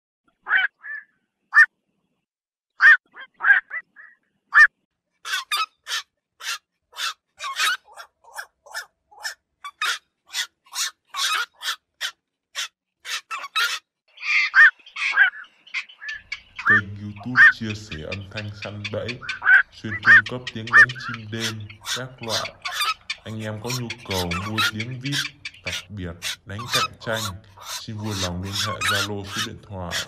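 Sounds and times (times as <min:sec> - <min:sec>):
herons squawking: 0:02.8 - 0:30.0.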